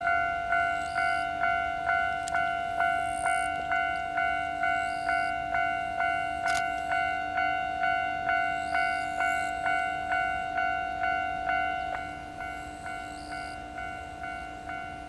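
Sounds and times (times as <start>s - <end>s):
level-crossing warning bell ringing: 0.0s - 15.0s.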